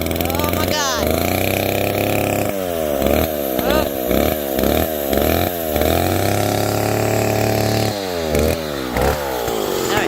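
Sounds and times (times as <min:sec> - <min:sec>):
chainsaw engine revving: 0:00.0 - 0:10.0.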